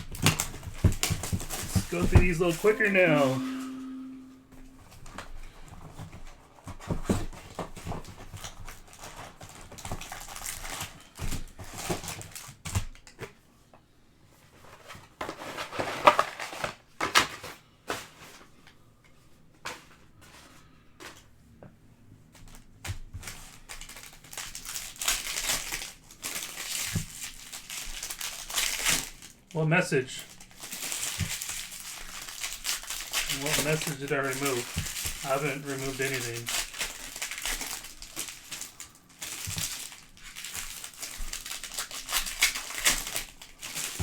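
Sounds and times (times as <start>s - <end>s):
foil card packs crinkling and tearing: 0.0s - 3.3s, 6.0s - 13.4s, 14.6s - 18.4s, 22.3s - 44.0s
cards and packaging rustling: 0.0s - 3.8s, 5.8s - 13.3s, 14.6s - 18.5s, 22.3s - 44.0s.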